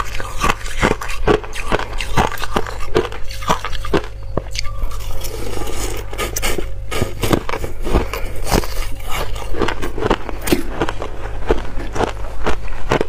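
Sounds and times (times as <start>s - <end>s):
ice crunching between teeth: 0.0s - 13.0s.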